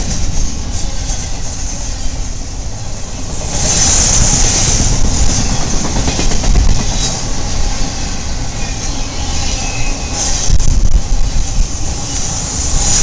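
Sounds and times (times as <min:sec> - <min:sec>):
high hissing rush: 0:00.0 - 0:13.0
train wheels rumbling on rails: 0:00.0 - 0:13.0.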